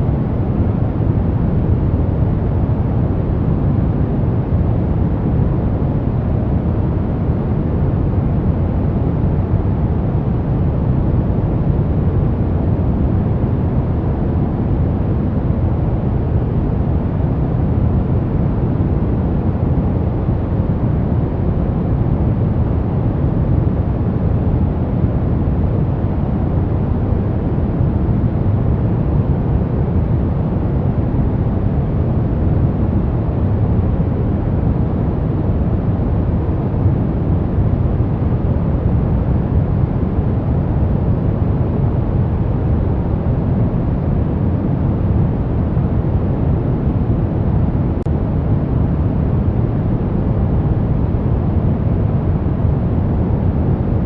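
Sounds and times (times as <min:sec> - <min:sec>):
deep rushing white noise: 0:00.0 - 0:54.0.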